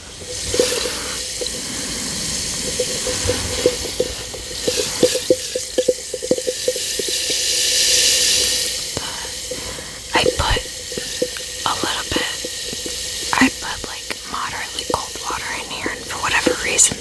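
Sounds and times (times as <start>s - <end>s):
bath bomb fizzing in water: 0.0s - 17.0s
small bubbles popping: 0.1s - 17.0s.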